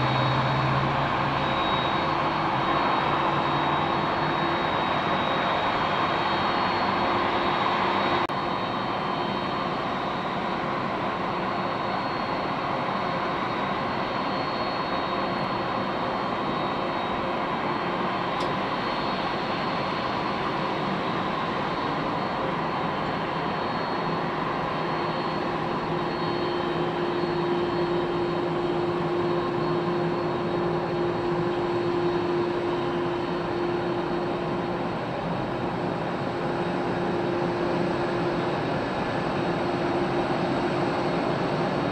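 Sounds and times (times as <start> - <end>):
jet engines running at low power: 0.0 - 41.9.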